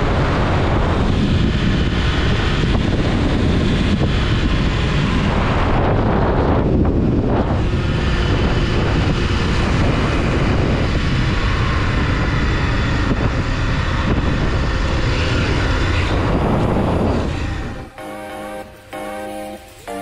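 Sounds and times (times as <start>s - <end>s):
wind rushing over microphone: 0.0s - 18.0s
motorcycle engine: 0.0s - 20.0s.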